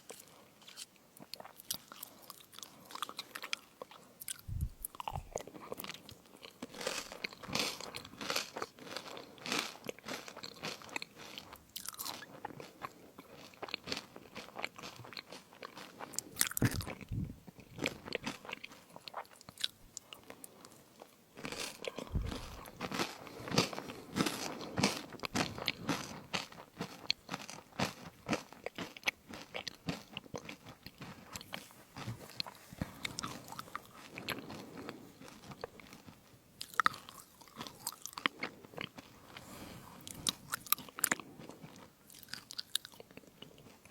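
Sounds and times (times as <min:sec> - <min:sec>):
crunching and chewing crisps: 0:00.0 - 0:43.9.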